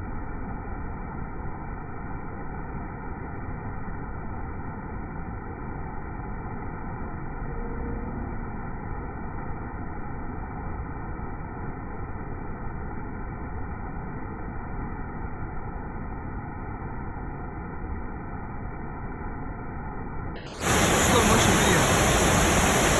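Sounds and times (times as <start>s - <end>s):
muffled rushing water: 0.0s - 22.9s.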